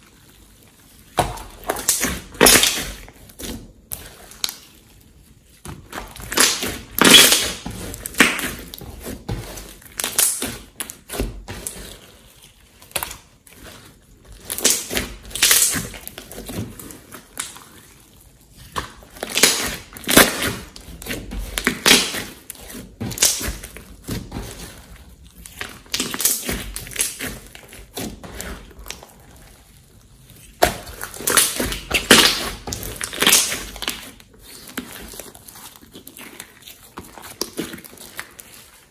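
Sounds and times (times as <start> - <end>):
slime squishing and popping: 0.2 - 38.9.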